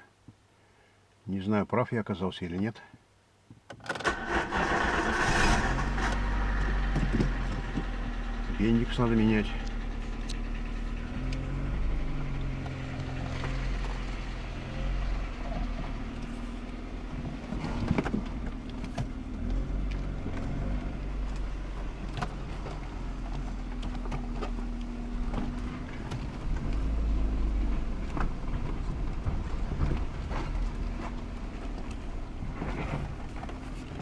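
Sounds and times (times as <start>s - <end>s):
road noise: 4.0s - 34.0s
car engine running: 4.7s - 34.0s.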